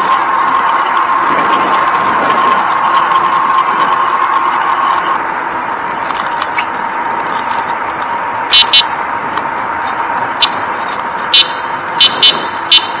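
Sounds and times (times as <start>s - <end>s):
bicycle tyre noise on pavement: 0.0s - 13.0s.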